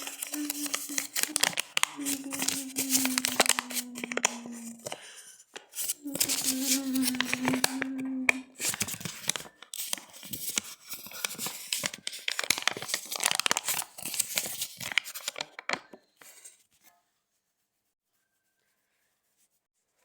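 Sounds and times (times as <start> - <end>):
squeaking and crinkling rubbing: 0.0 - 19.6.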